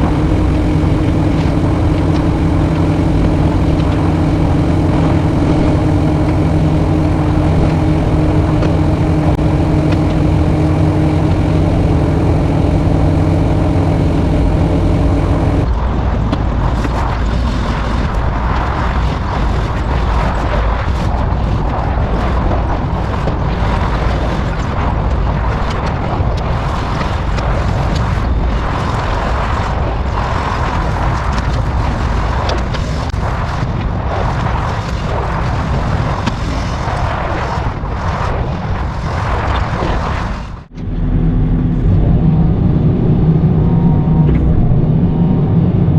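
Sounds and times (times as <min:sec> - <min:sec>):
diesel engine running: 0:00.0 - 0:45.9
rough rumble with crackles: 0:00.0 - 0:45.9.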